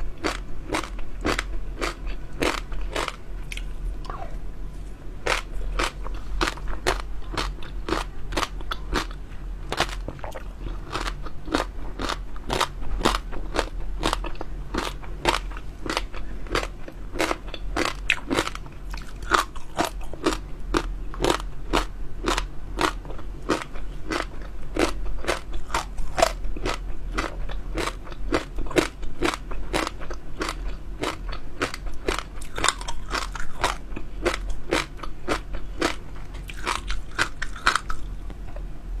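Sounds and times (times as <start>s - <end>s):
crunchy chewing: 0.0s - 4.4s, 5.2s - 38.7s.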